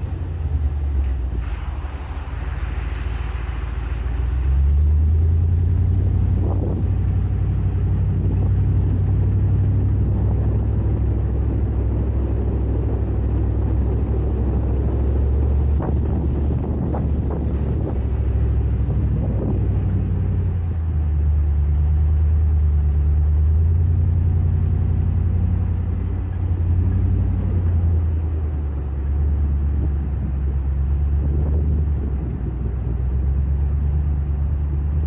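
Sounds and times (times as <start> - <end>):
off-road vehicle engine rumble: 0.0 - 35.0.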